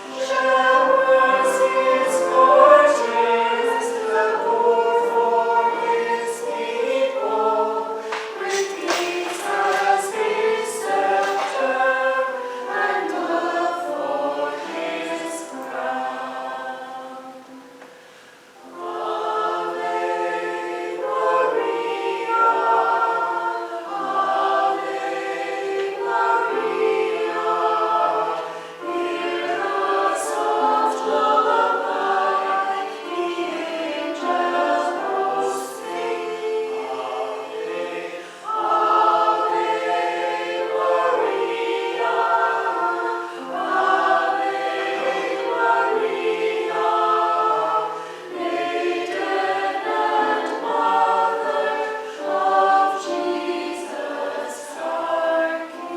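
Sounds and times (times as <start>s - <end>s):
choir singing: 0.0s - 55.9s.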